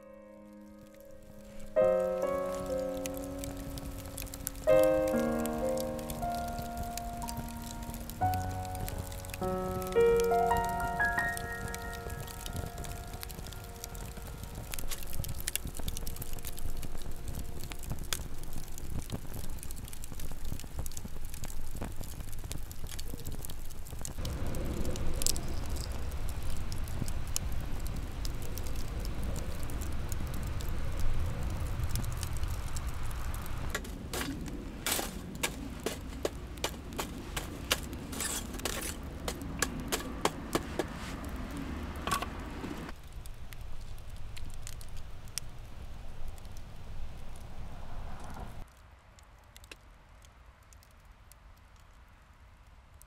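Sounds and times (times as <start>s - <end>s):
fire crackling and popping: 0.6s - 53.0s
low rush of flame: 0.8s - 10.0s, 12.0s - 48.8s.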